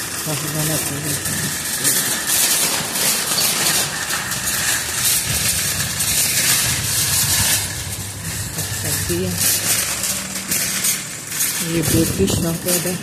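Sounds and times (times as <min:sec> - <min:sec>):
shopping cart rattling on concrete: 0:00.0 - 0:13.0.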